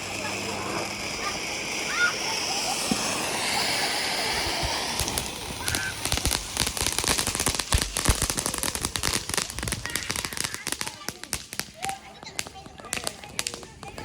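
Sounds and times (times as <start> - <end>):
fireworks crackling pops: 0.0 - 14.0
fireworks sparks hissing: 0.0 - 14.0.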